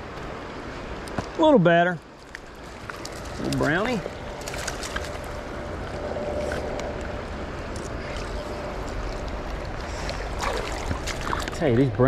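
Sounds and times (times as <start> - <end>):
faint ticks and splashes: 0.1 - 12.0.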